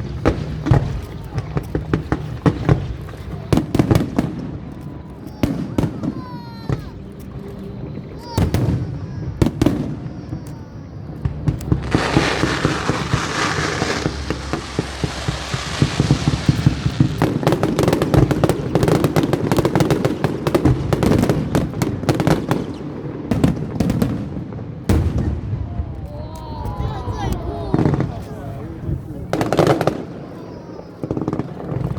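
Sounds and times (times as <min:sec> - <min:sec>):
fireworks bangs: 0:00.0 - 0:31.9
fireworks crackling: 0:00.0 - 0:31.9.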